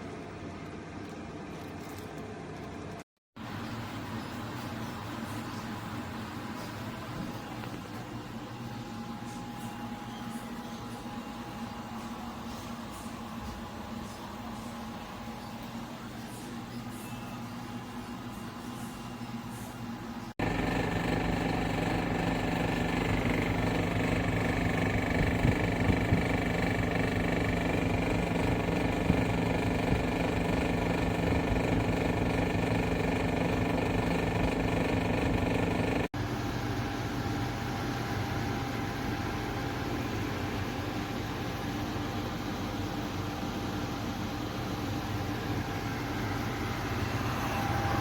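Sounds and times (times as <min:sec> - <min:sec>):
air conditioner humming: 0:00.0 - 0:48.0.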